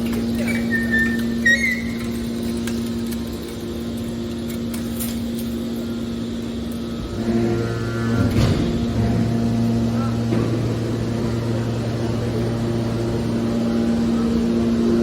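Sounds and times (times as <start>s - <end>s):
baler motor and pump humming: 0.0s - 15.0s.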